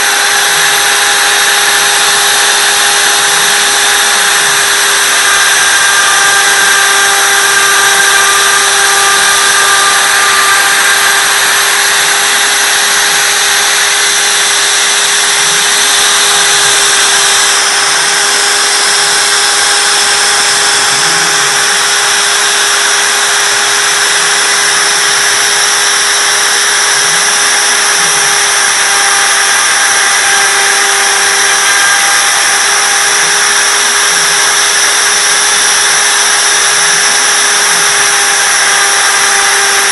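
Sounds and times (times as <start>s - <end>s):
router spindle high whine: 0.0s - 39.9s
low whir: 0.1s - 39.5s.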